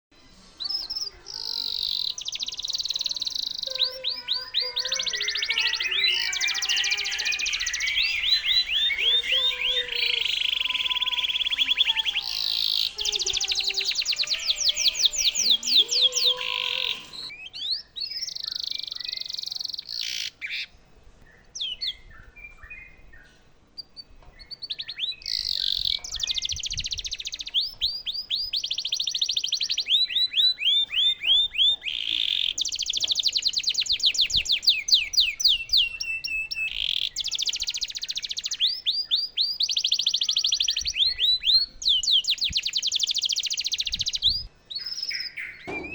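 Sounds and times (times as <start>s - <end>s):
soft bird chirps: 0.3s - 45.9s
canary trilling: 0.7s - 20.7s, 24.6s - 44.2s.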